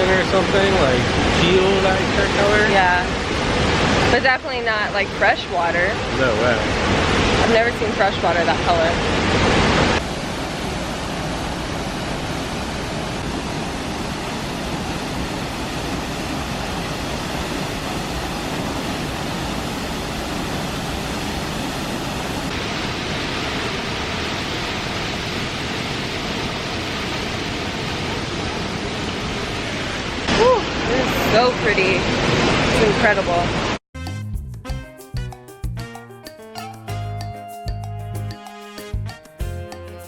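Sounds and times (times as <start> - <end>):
rushing water: 0.0 - 33.8.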